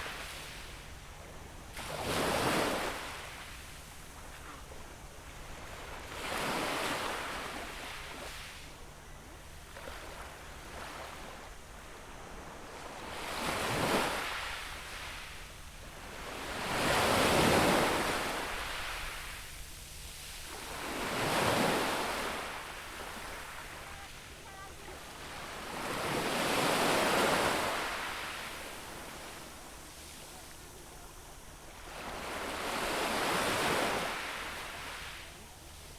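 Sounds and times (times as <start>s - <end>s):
sea waves breaking on shore: 1.6s - 4.6s, 5.2s - 8.7s, 12.7s - 35.9s.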